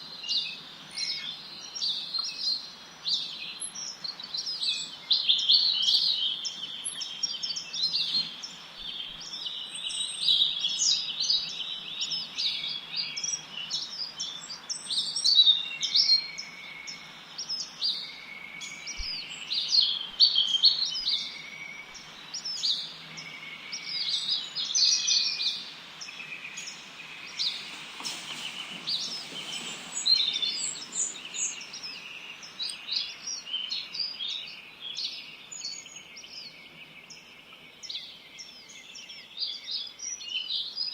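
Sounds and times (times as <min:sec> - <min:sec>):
faint steady hiss: 0:00.0 - 0:40.9
songbirds chirping and singing: 0:00.0 - 0:40.9.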